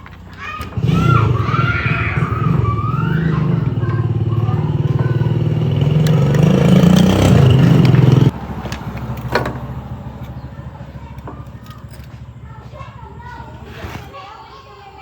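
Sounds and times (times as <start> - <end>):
tractor engine running: 0.0 - 14.1.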